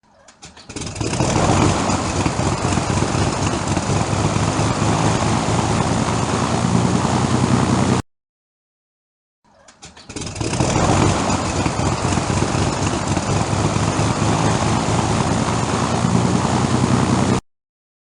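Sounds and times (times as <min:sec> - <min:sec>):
propeller aircraft engine starting: 0:00.3 - 0:08.0, 0:09.7 - 0:17.4.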